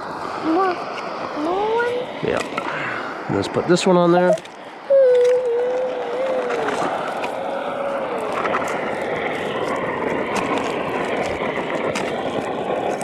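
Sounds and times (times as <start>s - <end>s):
campfire hissing and crackling: 0.0s - 13.0s.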